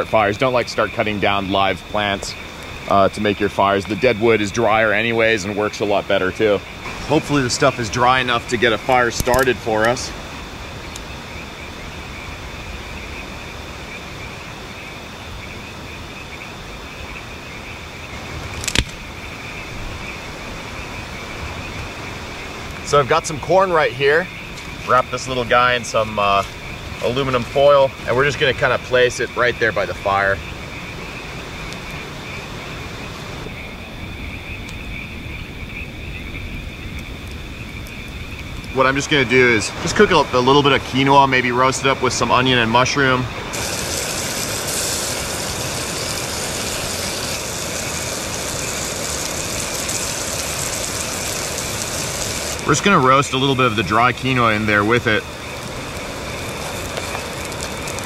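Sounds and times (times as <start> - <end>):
campfire kindling crack: 0.0 - 58.0
low hiss of forest at night: 0.0 - 58.0.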